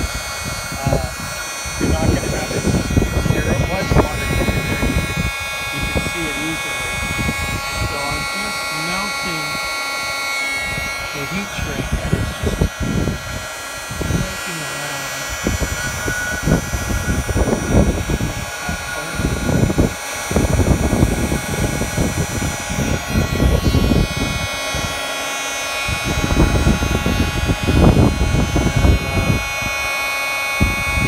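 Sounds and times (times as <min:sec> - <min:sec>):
heat gun fan whine: 0:00.0 - 0:31.0
rumble of blown air: 0:00.0 - 0:31.0.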